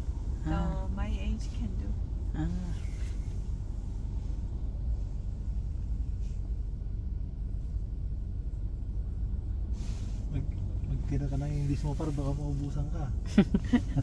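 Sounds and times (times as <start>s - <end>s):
car engine idling inside cabin: 0.0s - 14.0s.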